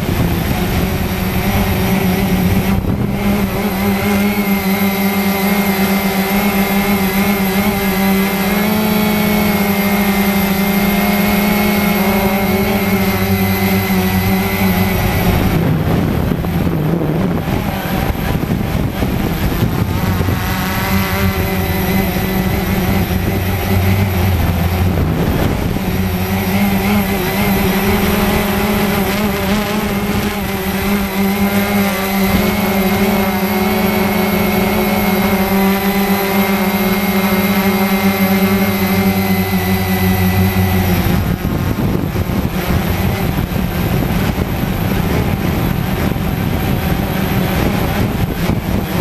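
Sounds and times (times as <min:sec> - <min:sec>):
drone motors whirring: 0:00.0 - 0:49.0
rough rushing noise: 0:00.0 - 0:49.0.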